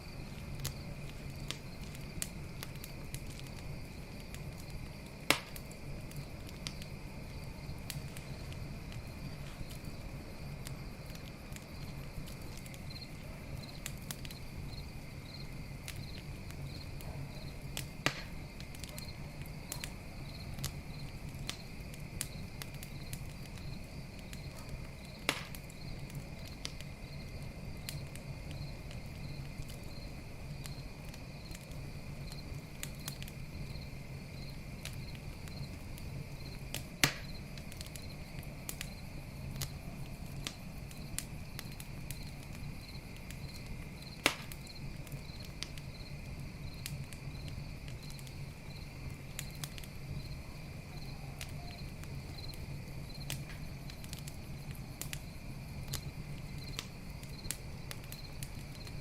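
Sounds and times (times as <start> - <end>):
campfire crackling: 0.0 - 59.0
crickets chirping: 0.0 - 59.0
loud fire pops: 0.0 - 59.0.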